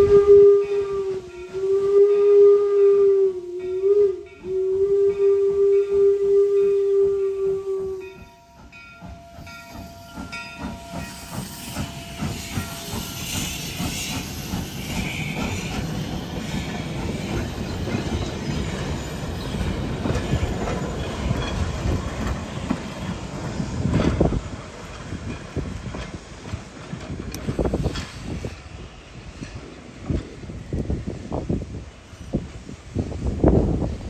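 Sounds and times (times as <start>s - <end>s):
hissing steam: 0.0s - 34.0s
steam locomotive running: 0.0s - 34.0s.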